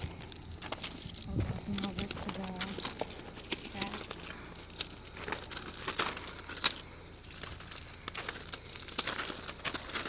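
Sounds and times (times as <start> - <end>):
footsteps crunching on gravel: 0.0 - 10.0.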